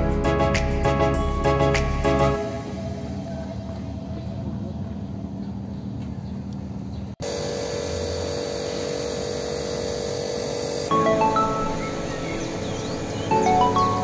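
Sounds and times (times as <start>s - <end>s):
steady hum: 0.0s - 5.9s, 7.2s - 14.0s.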